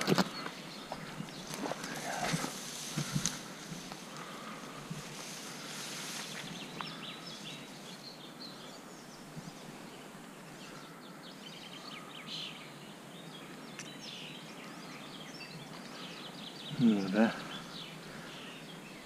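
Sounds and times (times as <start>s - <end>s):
birds chirping and singing: 0.0s - 19.0s
steady background hiss: 0.0s - 19.0s.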